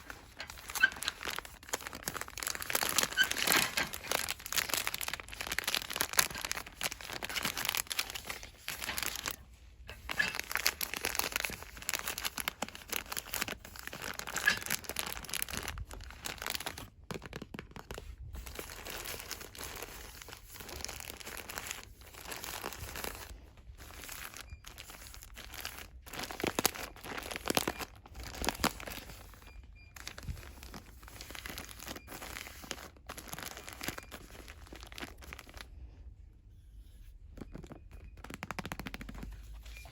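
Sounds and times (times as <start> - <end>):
packaging rustling and crinkling: 0.0 - 35.9, 36.8 - 39.9.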